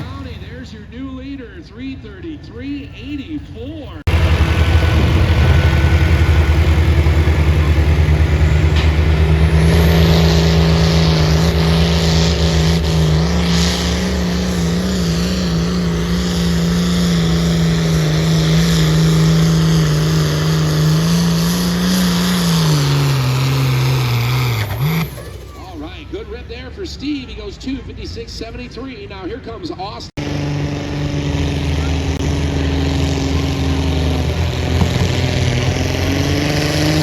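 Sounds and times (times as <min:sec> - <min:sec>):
tractor engine under heavy load: 0:00.0 - 0:01.0, 0:04.0 - 0:37.0.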